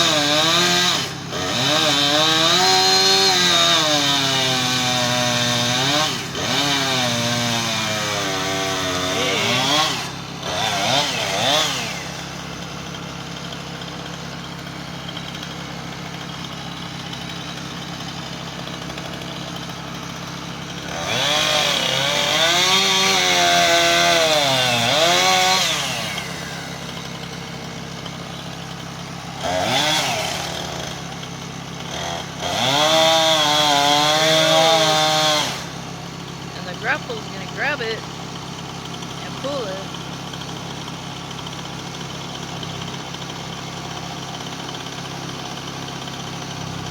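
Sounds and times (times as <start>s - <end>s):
chainsaw cutting tree: 0.0s - 46.9s.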